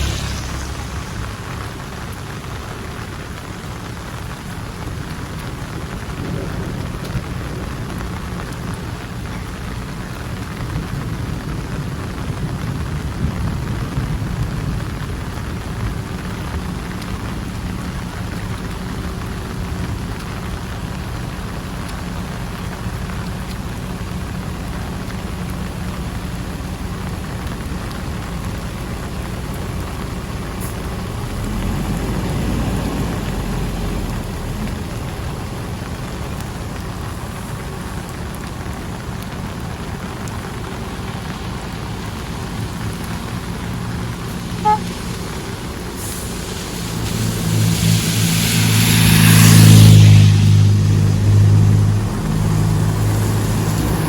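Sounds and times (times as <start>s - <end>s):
deep low rumble: 0.0s - 54.0s
heavy rain pouring: 0.0s - 54.0s.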